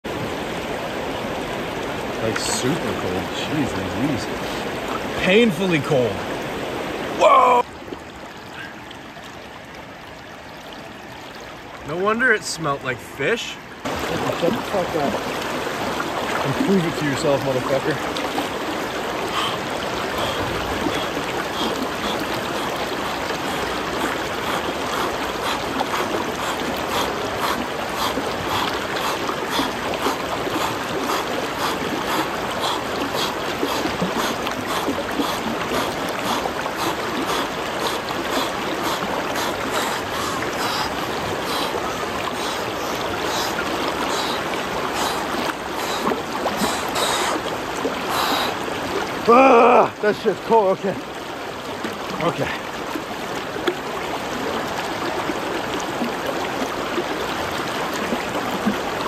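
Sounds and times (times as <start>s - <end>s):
small water splashes: 0.0s - 59.0s
river rushing over rocks: 0.1s - 59.0s.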